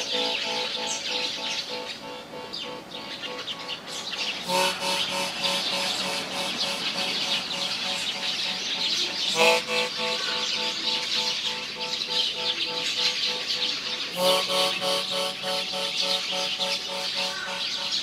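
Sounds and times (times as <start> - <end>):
pulsing musical tone: 0.0 - 18.0
small birds chirping: 0.0 - 18.0.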